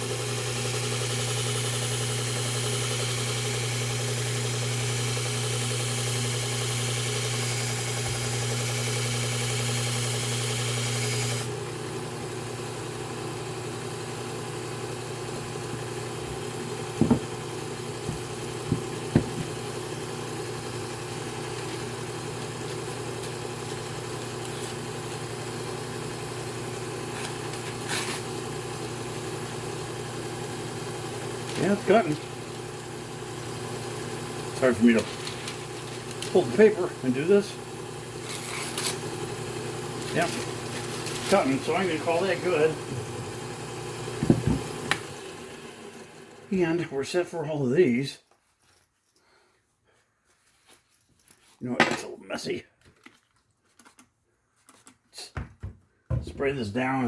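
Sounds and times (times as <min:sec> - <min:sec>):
belt sharpener motor hum: 0:00.0 - 0:46.8.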